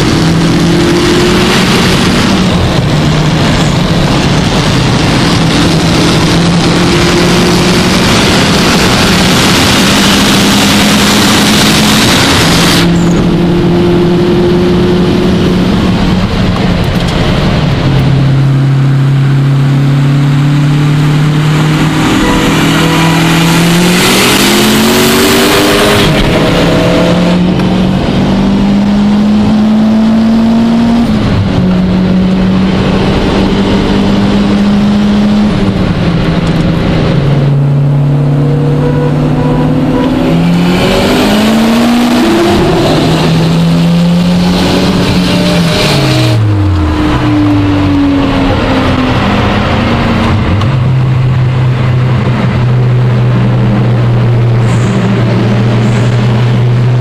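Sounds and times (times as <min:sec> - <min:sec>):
car engine revving: 0:00.0 - 0:57.0
wind and road noise: 0:00.0 - 0:57.0.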